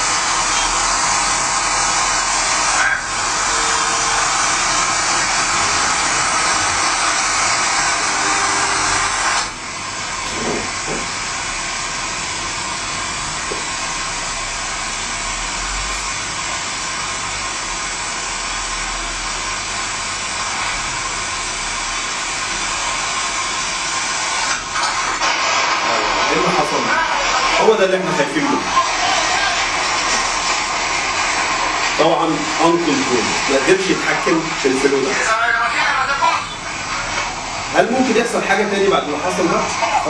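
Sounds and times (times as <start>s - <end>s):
oil well hissing rush: 0.0s - 40.0s.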